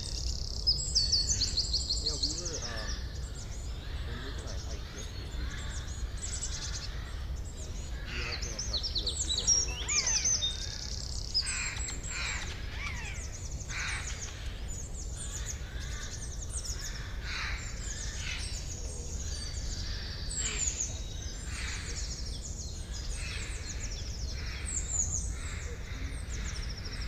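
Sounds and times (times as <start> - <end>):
birds chirping and trilling: 0.0 - 27.0.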